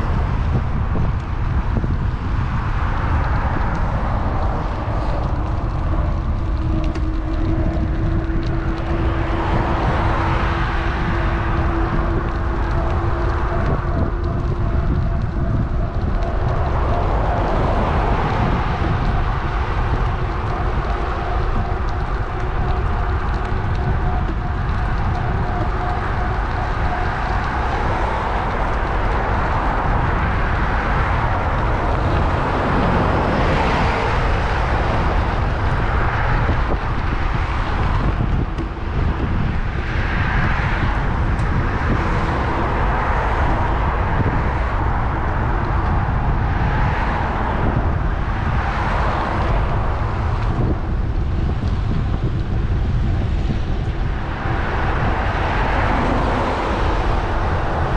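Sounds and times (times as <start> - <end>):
road traffic passing: 0.0 - 57.9
wind buffeting microphone: 0.0 - 57.9.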